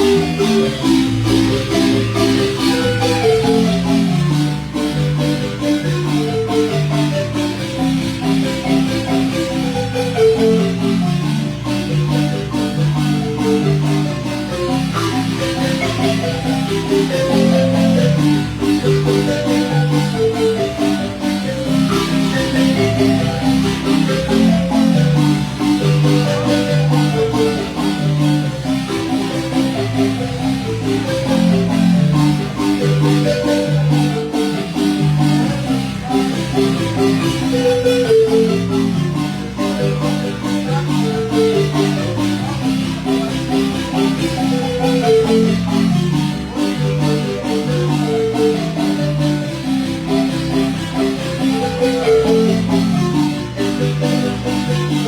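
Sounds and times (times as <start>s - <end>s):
marimba music: 0.0s - 55.0s.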